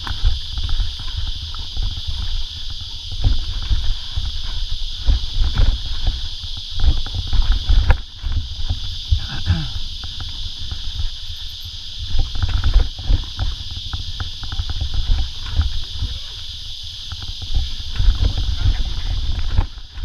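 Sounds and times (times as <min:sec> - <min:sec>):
mountain bike rattling over rocks: 0:00.0 - 0:20.0
steady high hiss: 0:00.0 - 0:20.0
wind rumble on microphone: 0:00.0 - 0:20.0.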